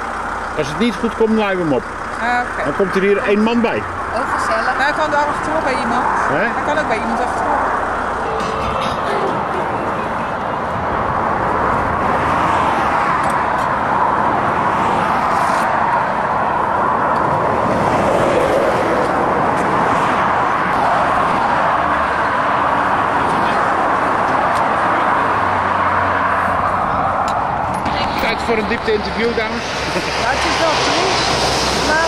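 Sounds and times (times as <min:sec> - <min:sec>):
road traffic: 0:00.0 - 0:32.0.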